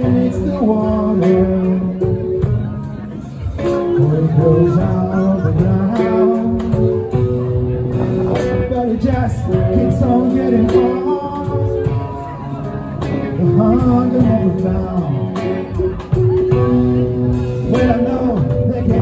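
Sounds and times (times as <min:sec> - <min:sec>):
man singing into microphone: 0:00.0 - 0:02.8, 0:03.6 - 0:19.0
drum kit beat: 0:00.0 - 0:19.0
electric guitars: 0:00.0 - 0:19.0
keyboard playing: 0:00.0 - 0:19.0.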